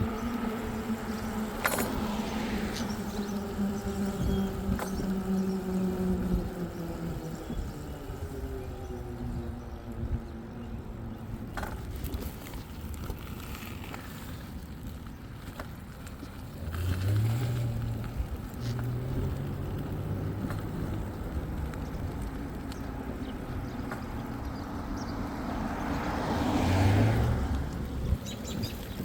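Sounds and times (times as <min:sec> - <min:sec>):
road and wind rumble: 0:00.0 - 0:29.0
vehicle engine hum: 0:00.0 - 0:29.0.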